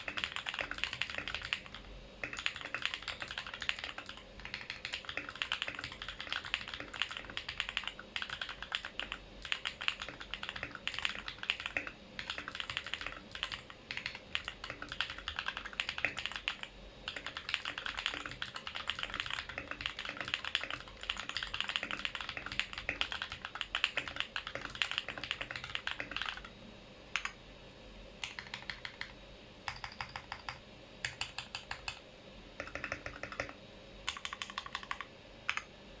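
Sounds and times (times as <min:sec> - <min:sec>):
mechanical keyboard typing: 0:00.0 - 0:26.5, 0:27.2 - 0:27.4, 0:28.2 - 0:32.0, 0:32.6 - 0:35.7.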